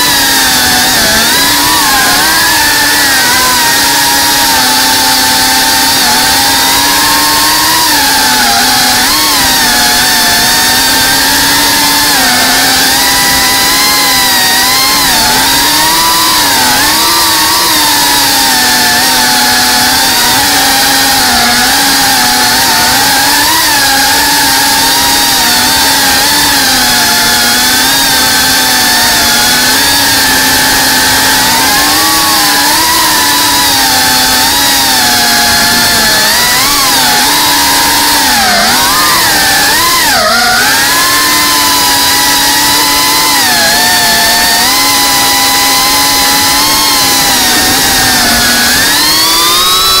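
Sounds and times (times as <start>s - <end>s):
drone motors and propellers whining: 0.0s - 50.0s.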